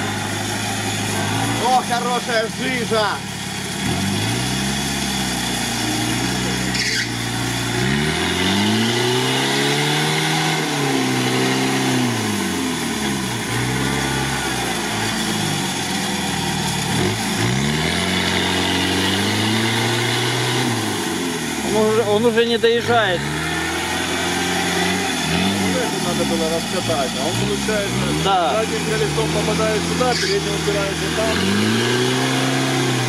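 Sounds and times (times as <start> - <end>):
engine revving hard: 0.0 - 33.0
wheels spinning in mud: 0.0 - 33.0.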